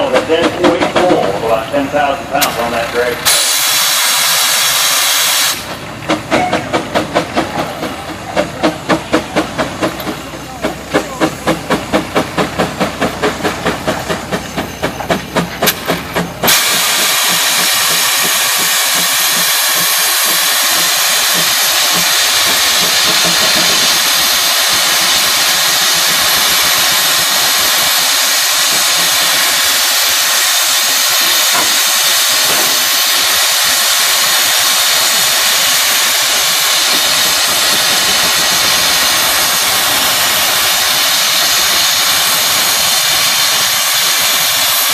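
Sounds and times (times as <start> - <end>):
loud hiss of escaping steam: 0.0 - 44.9
steam engine exhaust chuffs: 0.0 - 44.9.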